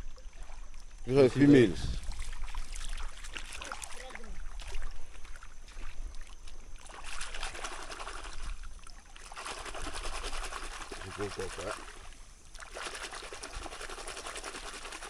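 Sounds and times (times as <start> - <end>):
seawater splashing over sand: 0.0 - 15.0.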